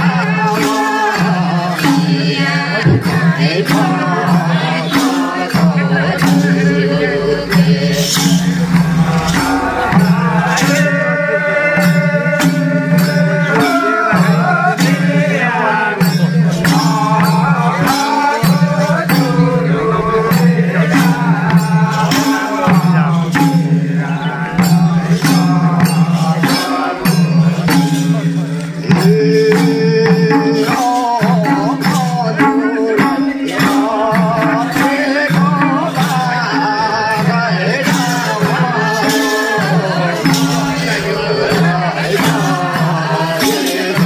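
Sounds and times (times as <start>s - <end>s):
percussion strikes: 0.0s - 44.0s
person singing: 0.0s - 44.0s.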